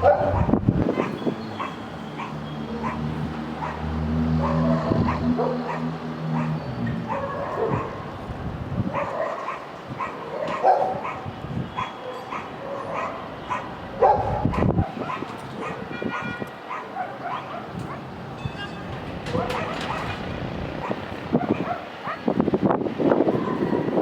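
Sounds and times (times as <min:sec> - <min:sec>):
dog barking and yipping: 0:00.0 - 0:08.1, 0:08.9 - 0:18.1, 0:19.2 - 0:22.4, 0:23.3 - 0:24.0
low hum of city noise: 0:00.0 - 0:24.0.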